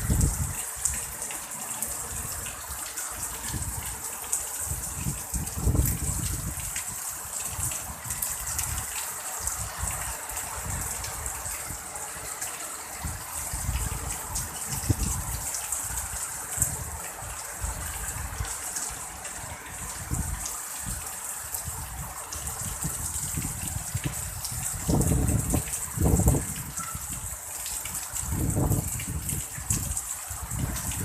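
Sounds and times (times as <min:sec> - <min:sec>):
heavy rain pouring: 0:00.0 - 0:31.0
raindrops ticking nearby: 0:00.0 - 0:31.0
wind gusts on microphone: 0:00.0 - 0:31.0.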